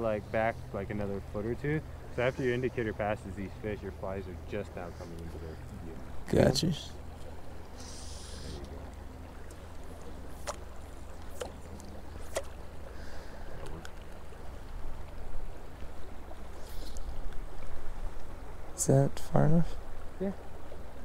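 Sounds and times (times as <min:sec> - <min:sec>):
faint river water flowing: 0:00.0 - 0:21.0.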